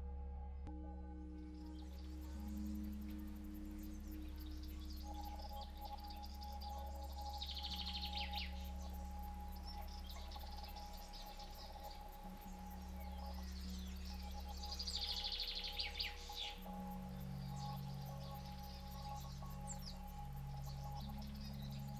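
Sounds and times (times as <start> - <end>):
steady ambient drone: 0.0 - 21.9.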